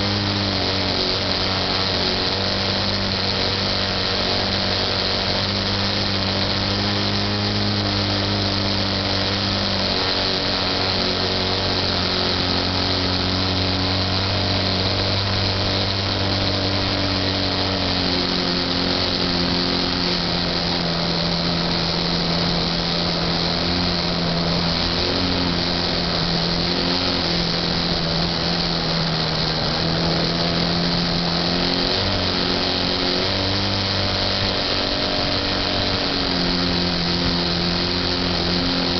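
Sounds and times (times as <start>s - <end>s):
hiss: 0.0s - 38.9s
model airplane motor and propeller: 0.0s - 38.9s.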